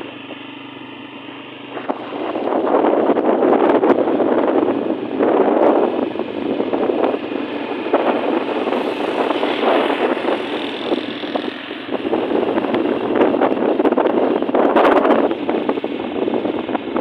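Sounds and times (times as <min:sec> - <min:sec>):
motorcycle engine running: 0:00.0 - 0:17.0
wind buffeting microphone: 0:01.5 - 0:17.0.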